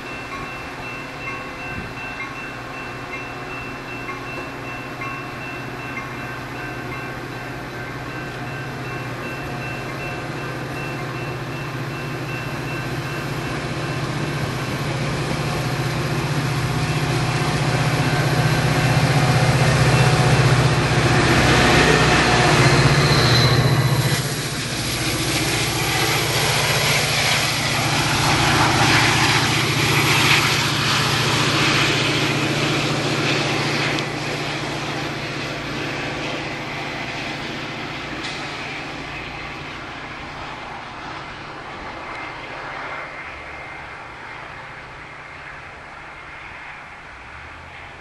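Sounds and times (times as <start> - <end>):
diesel locomotive engine drone: 0.0 - 48.0
train wheels on rails: 0.0 - 48.0.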